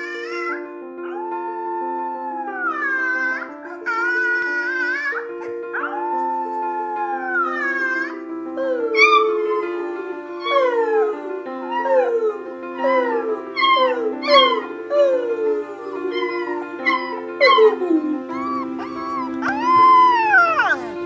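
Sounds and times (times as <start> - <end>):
background music: 0.0 - 21.0
puppy howling: 0.2 - 21.0.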